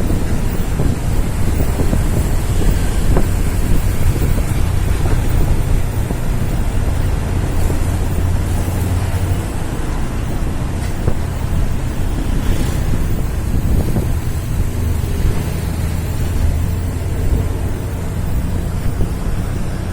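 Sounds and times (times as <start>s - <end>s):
truck diesel engine droning: 0.0s - 19.9s
wind rushing over microphone: 0.0s - 19.9s.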